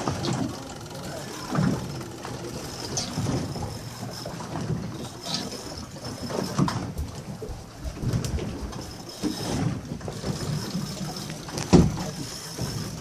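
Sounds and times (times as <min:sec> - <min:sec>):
water washing against hull: 0:00.0 - 0:13.0.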